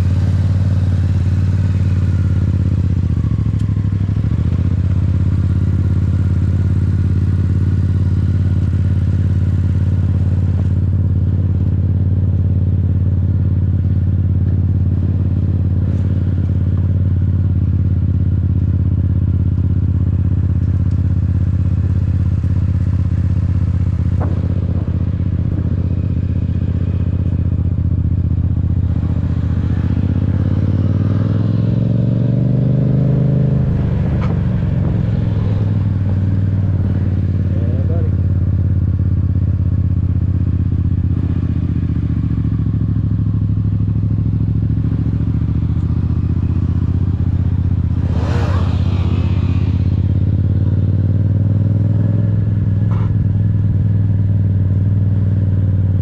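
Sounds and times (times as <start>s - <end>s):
motorcycle engine idling: 0.0s - 31.5s, 32.7s - 56.0s.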